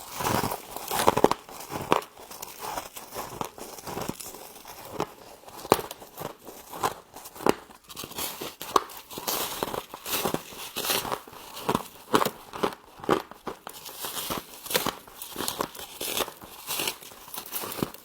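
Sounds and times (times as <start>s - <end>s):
frost being chewed: 0.0s - 18.0s.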